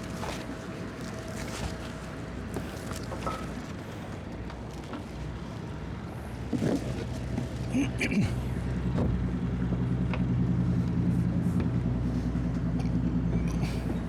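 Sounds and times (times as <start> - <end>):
outboard motors running: 0.0 - 14.0.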